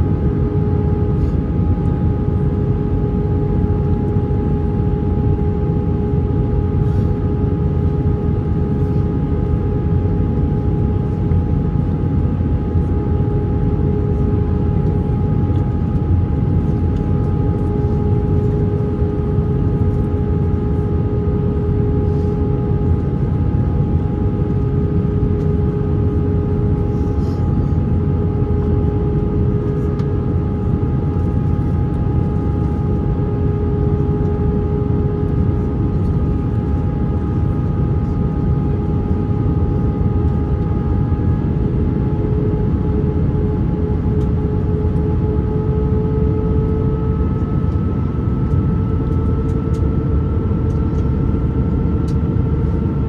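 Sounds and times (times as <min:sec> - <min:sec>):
airplane cabin drone: 0:00.0 - 0:53.0
constant hum tone: 0:00.0 - 0:53.0.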